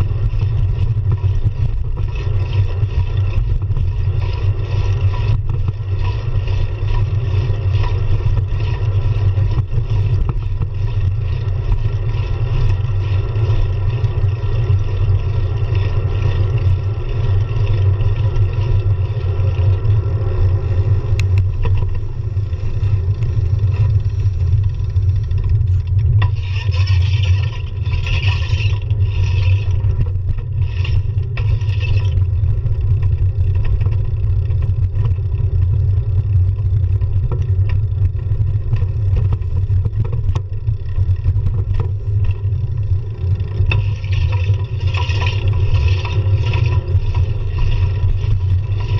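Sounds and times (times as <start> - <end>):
bike rolling over pavement: 0.0 - 48.9.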